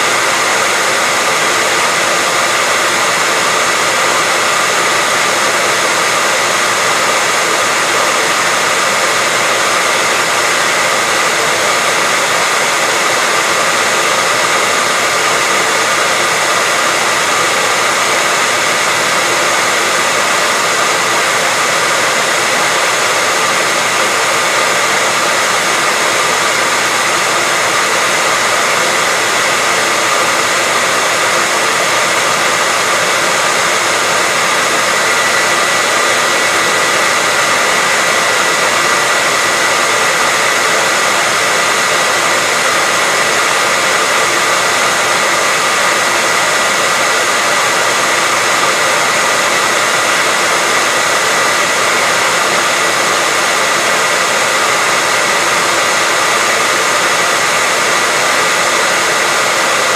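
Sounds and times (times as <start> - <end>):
hairdryer running: 0.0 - 59.9.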